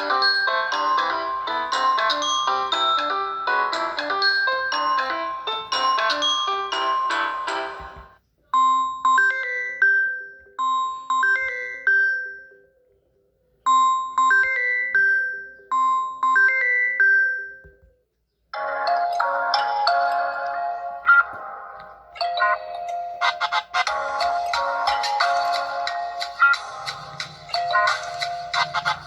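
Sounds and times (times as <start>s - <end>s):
chiming phone ringtone: 0.0s - 12.9s, 13.7s - 17.9s, 18.6s - 29.0s.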